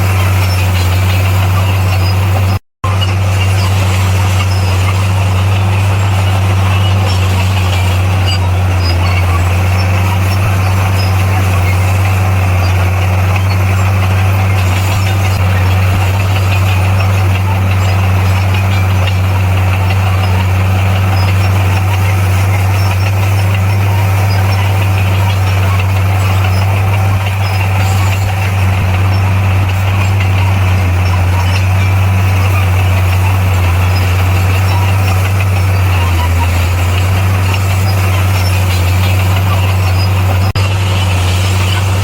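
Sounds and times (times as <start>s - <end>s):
diesel engine humming: 0.0s - 42.0s.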